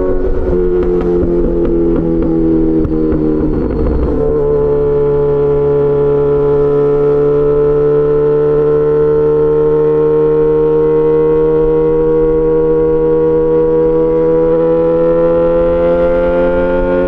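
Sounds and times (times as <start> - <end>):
loud motorcycle engine: 0.0 - 17.0.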